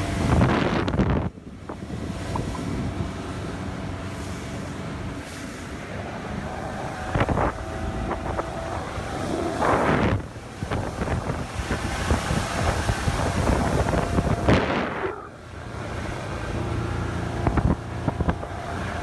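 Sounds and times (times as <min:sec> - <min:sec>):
motorboat engine droning: 0:00.0 - 0:19.0
wind buffeting microphone: 0:00.0 - 0:19.0.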